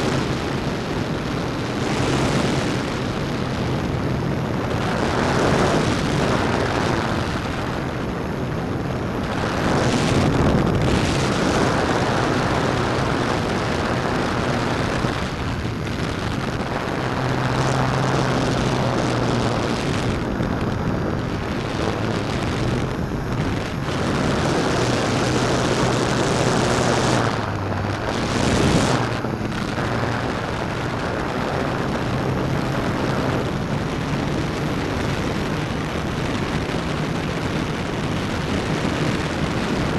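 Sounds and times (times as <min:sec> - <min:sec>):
drone propellers rushing: 0:00.0 - 0:36.9
low motor hum: 0:00.0 - 0:39.9.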